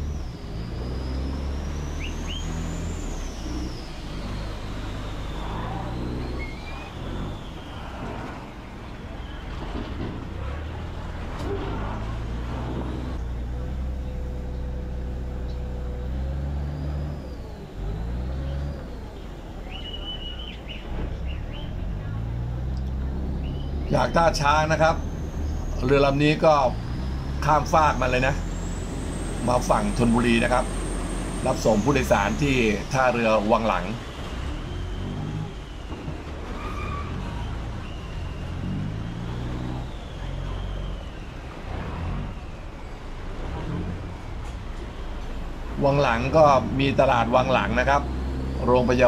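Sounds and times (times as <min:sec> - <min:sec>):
boat diesel engine droning: 0:00.0 - 0:49.0.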